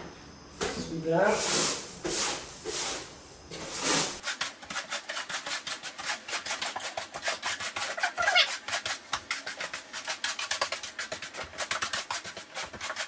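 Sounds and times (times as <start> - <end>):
broom sweeping litter on floor: 0.6 - 13.0.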